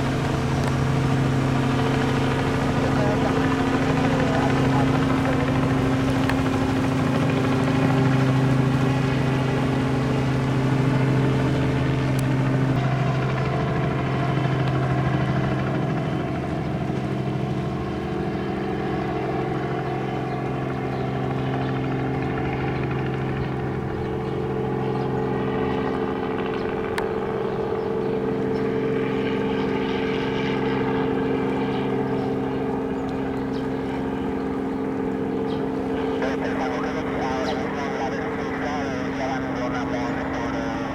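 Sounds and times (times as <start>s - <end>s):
engine drone: 0.0s - 40.9s.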